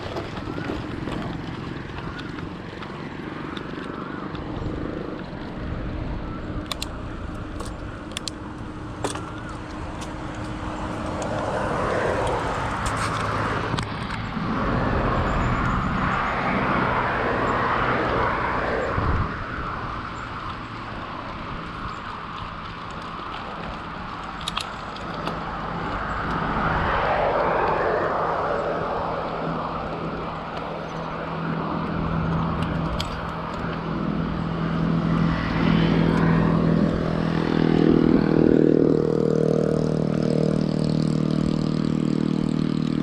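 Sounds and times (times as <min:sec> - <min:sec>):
road traffic rumble: 0:00.0 - 0:43.0
motor vehicle passing: 0:08.0 - 0:43.0.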